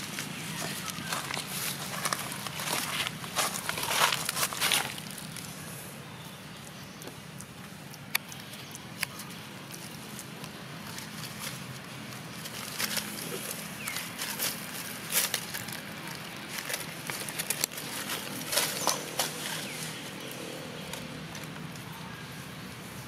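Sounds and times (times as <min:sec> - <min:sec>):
dry leaves crackling and rustling: 0:00.0 - 0:05.8, 0:07.7 - 0:23.0.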